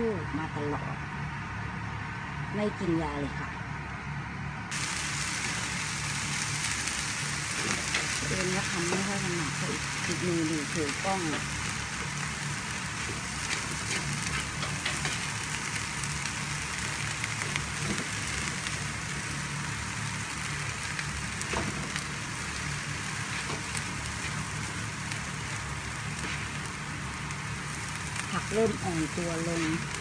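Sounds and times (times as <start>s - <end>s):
food sizzling in a frying pan: 4.7s - 30.0s.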